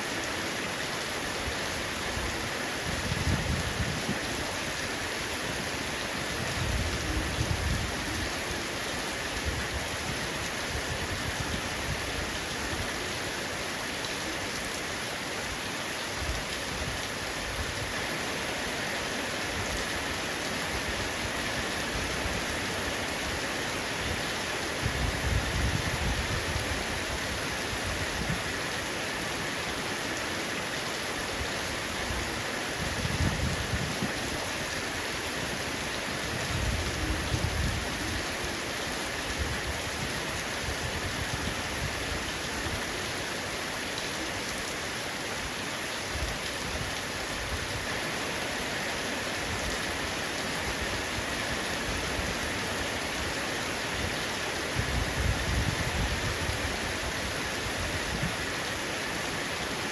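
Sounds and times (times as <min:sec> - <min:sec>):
heavy rain on a roof: 0:00.0 - 0:59.9.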